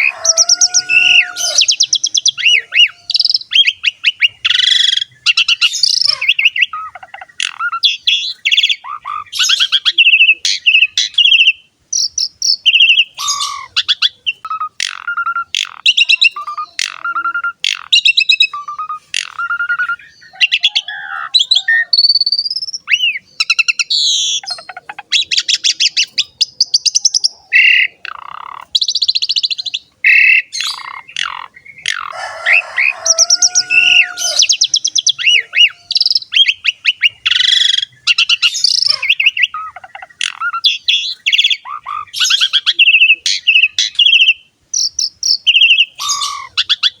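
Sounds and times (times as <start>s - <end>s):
starling singing: 0.0s - 47.0s.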